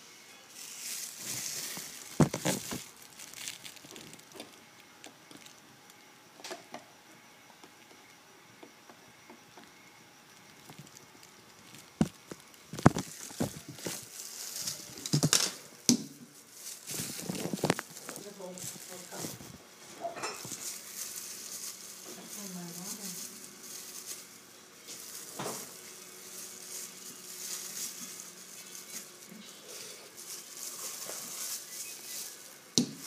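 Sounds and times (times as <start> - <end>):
plastic crinkling rustle: 0.5 - 6.0, 10.3 - 15.6, 16.2 - 33.0.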